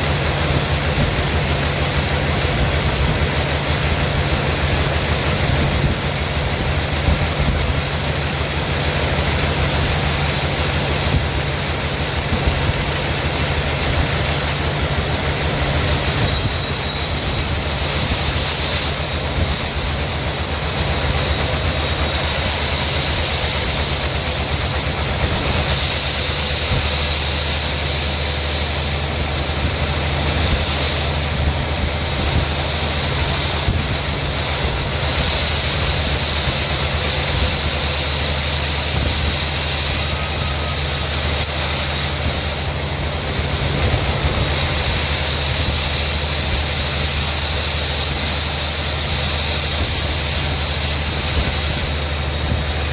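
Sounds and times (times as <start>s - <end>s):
low motor hum: 0.0s - 47.4s
high-pitched machine whine: 0.0s - 52.9s.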